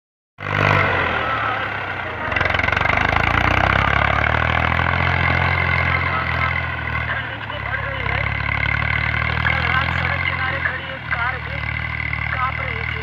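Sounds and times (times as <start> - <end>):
tractor diesel engine running: 0.4 - 13.0.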